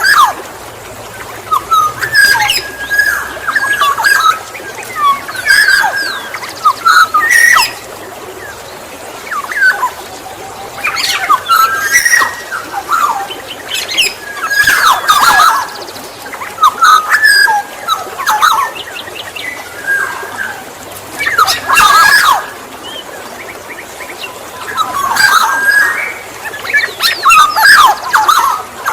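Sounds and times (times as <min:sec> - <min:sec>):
oriole calling: 0:00.0 - 0:28.9.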